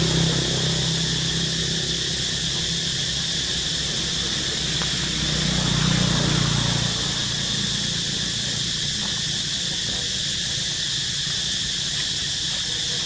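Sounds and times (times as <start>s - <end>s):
passing vehicle rumble: 0.0s - 13.0s
steady high hiss: 0.0s - 13.0s.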